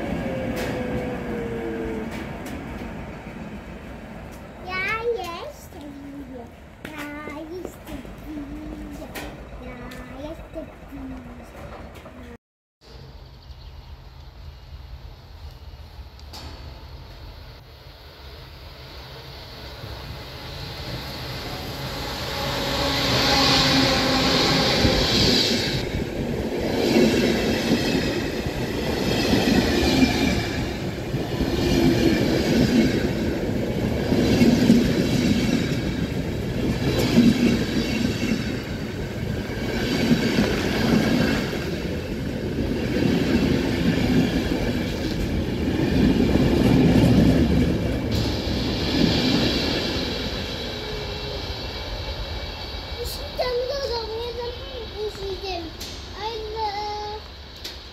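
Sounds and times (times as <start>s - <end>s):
train wheels rumbling and clattering: 0.0s - 12.4s, 13.5s - 57.9s
electric locomotive passing: 0.0s - 57.9s.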